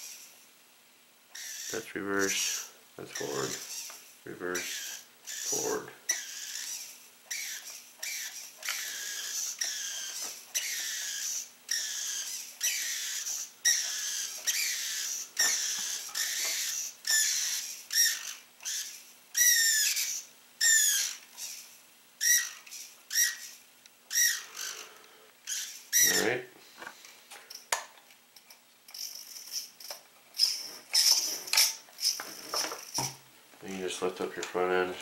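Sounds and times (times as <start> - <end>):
servo whirring whines: 0.0 - 0.4, 1.3 - 27.8, 28.9 - 33.2.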